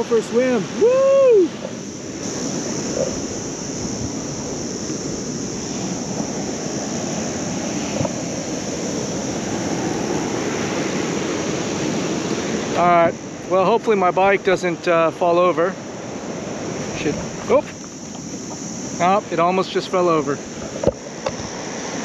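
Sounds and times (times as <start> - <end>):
surf washing onto beach: 0.0 - 22.0
wind on microphone: 0.0 - 22.0.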